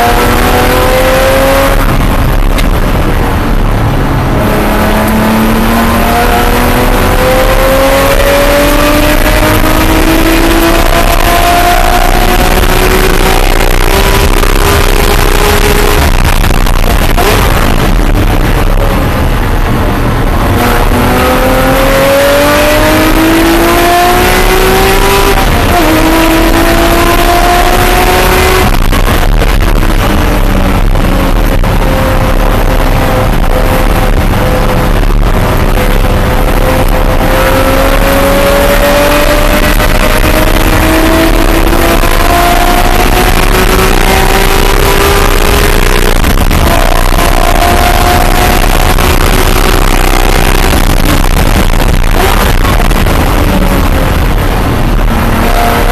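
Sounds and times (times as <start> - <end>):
sports car engine revving hard: 0.0 - 55.9.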